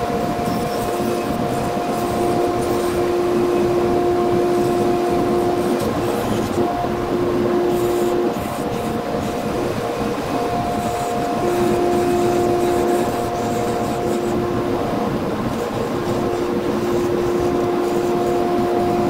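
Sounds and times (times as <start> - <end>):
steady tone: 0.0 - 19.0
wood lathe hum: 0.0 - 19.0.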